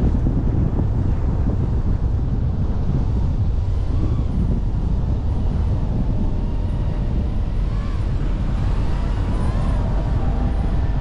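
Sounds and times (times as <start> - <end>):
vehicle running noise: 0.0 - 11.0
wind buffeting microphone: 0.0 - 11.0.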